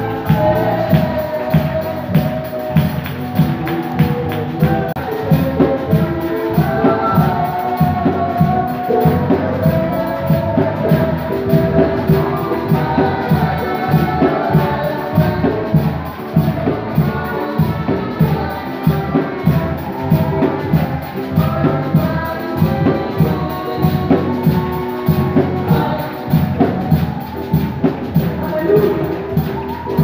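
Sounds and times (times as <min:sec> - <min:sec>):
worship music over loudspeakers: 0:00.0 - 0:30.0.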